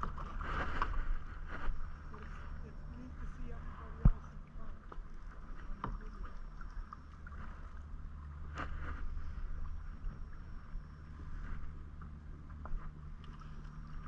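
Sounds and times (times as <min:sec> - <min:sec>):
paddle splashing water: 0:00.0 - 0:14.0.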